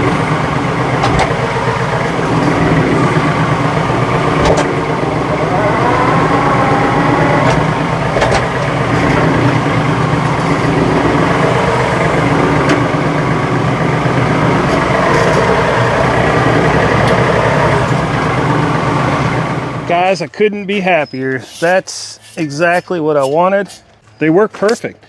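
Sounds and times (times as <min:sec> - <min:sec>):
tractor diesel engine running: 0:00.0 - 0:24.8.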